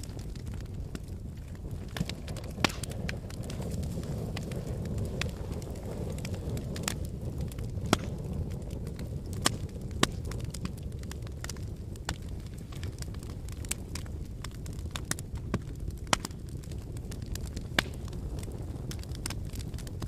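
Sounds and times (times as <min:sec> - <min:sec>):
logs crackling and popping: 0:00.0 - 0:20.0
low rumble of flames: 0:00.0 - 0:20.0.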